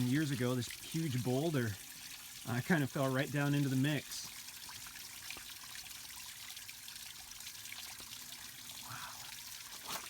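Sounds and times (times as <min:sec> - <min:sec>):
small waterfall splashing over rock: 0:00.0 - 0:10.0.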